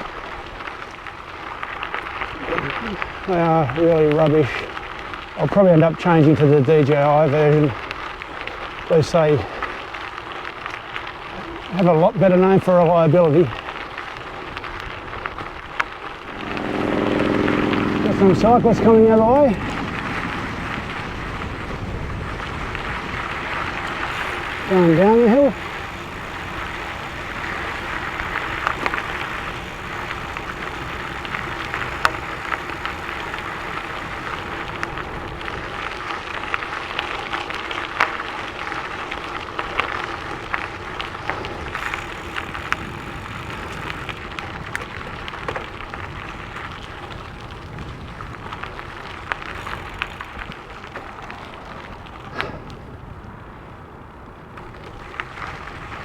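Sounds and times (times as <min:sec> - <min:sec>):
bike tyres crunching on gravel: 0:00.0 - 0:56.0.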